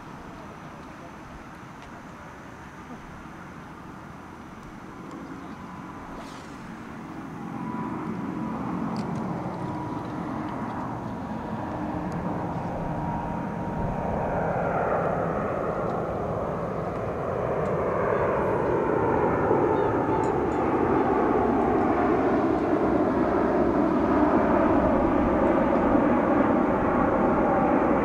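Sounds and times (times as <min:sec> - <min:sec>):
high engine whine: 0:00.0 - 0:28.0
jet engines at takeoff power: 0:00.0 - 0:28.0.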